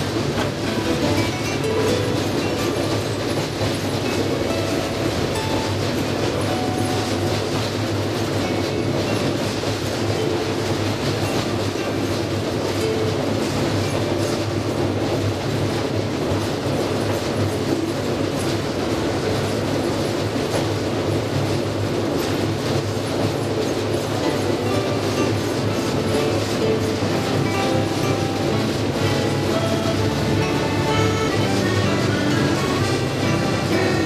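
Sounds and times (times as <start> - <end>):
locomotive engine humming: 0.0 - 34.0
train wheels clicking over rail joints: 0.0 - 34.0.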